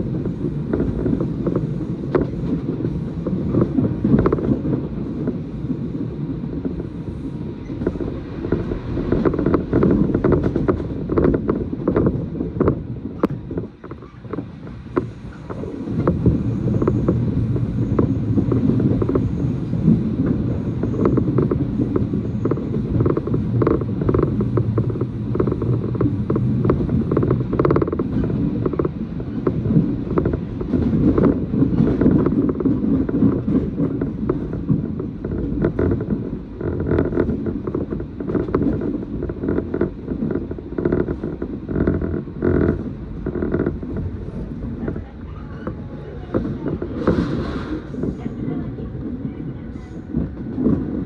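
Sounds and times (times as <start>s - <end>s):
train car body creaking: 0.0s - 51.0s
train wheels rumbling on rails: 0.0s - 51.0s.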